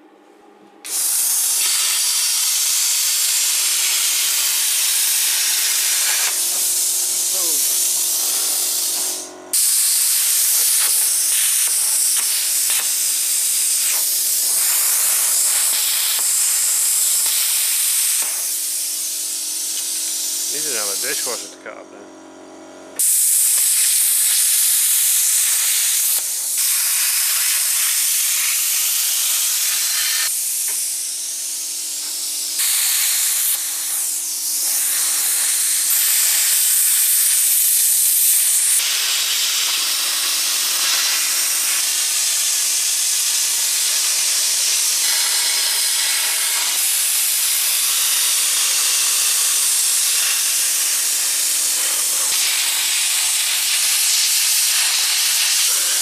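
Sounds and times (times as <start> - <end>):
plasma cutter hissing: 0.8 - 21.6, 23.0 - 56.0.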